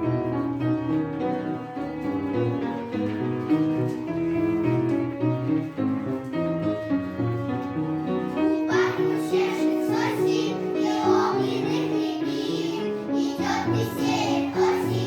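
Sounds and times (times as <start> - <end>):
piano accompaniment: 0.0 - 15.0.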